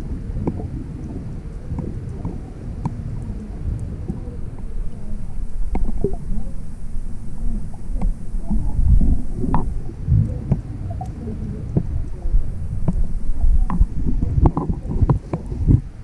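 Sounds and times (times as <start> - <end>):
faint clicks and pops: 0.0 - 16.0
underwater rumble of moving water: 0.0 - 16.0.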